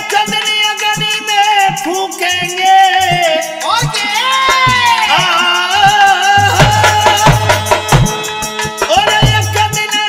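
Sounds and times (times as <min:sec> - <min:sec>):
drum beat: 0:00.0 - 0:10.0
jingling percussion: 0:00.0 - 0:10.0.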